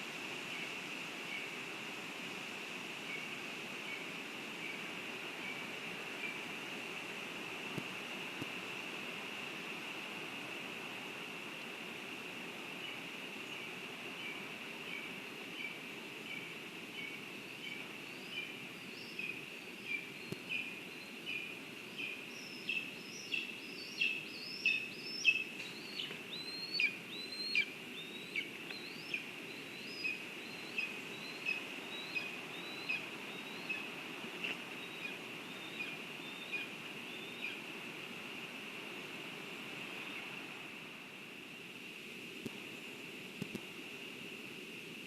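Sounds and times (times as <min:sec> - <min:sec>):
steady outdoor hiss: 0:00.0 - 0:45.0.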